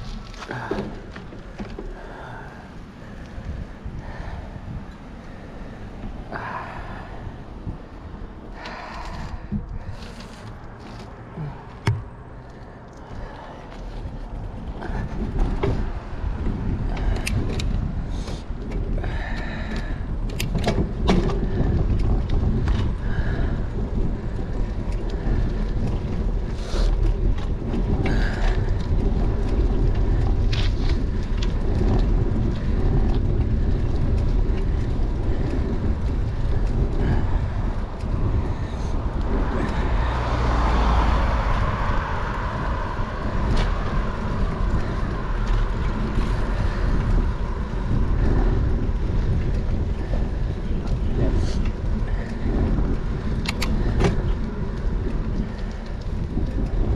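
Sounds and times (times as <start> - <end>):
bike clicks and rattles: 0.0 - 56.9
bike tyres rumbling on asphalt: 0.0 - 56.9
wind buffeting microphone: 0.0 - 56.9
car passing: 1.9 - 20.2, 21.4 - 56.9.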